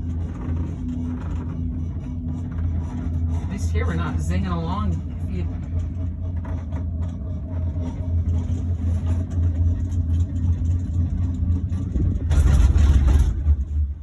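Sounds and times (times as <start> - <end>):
cable car gondola rumble: 0.0 - 14.0.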